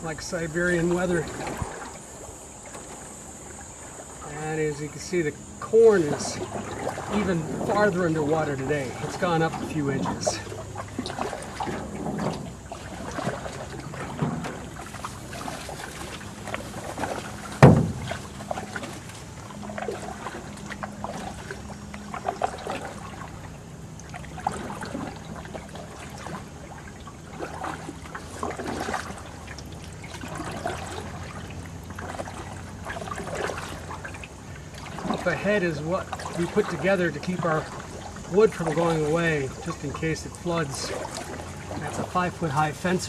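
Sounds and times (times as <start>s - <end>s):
paddle strokes in water: 0.0s - 43.0s
water dripping off paddle: 0.0s - 43.0s.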